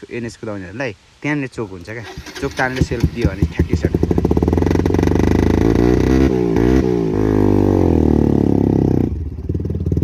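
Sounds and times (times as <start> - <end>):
motorcycle engine revving: 1.8 - 10.0.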